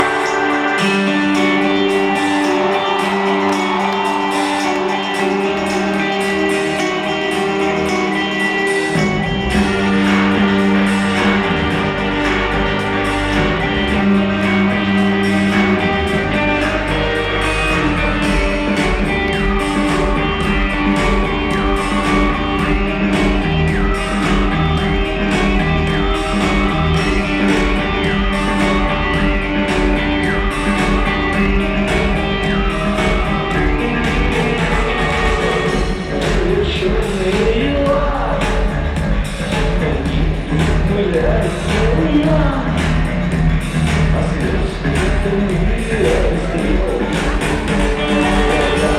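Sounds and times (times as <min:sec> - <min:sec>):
electric guitar: 0:00.0 - 0:48.9
rock band playing: 0:00.0 - 0:48.9
bass and drums: 0:08.7 - 0:48.9.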